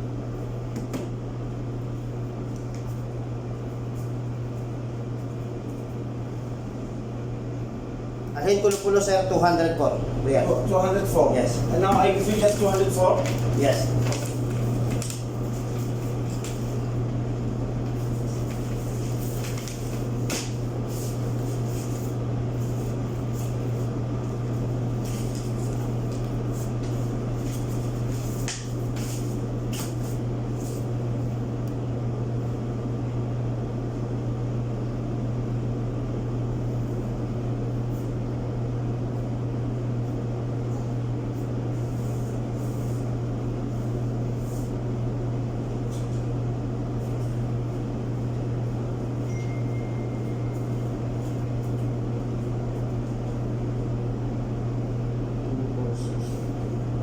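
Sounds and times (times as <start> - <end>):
motor appliance humming and whirring: 9.5 - 57.0.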